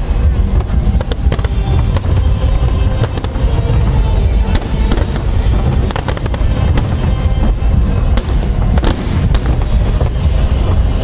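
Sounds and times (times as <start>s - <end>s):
fireworks booms: 0.0s - 11.0s
fireworks sharp cracks: 0.0s - 11.0s.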